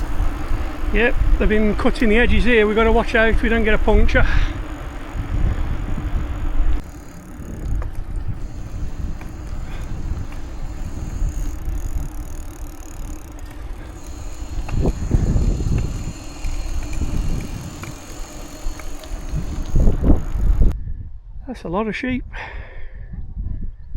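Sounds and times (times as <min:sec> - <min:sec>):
wind buffeting microphone: 0:00.0 - 0:21.4, 0:22.8 - 0:23.9.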